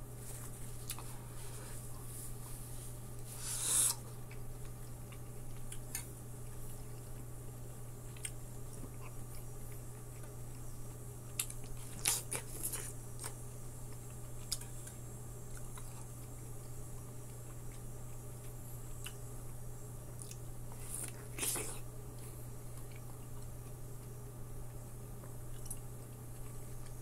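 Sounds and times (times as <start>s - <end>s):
steady low hum: 0.0s - 27.0s
wet chewing of melon: 0.8s - 2.1s, 3.4s - 27.0s.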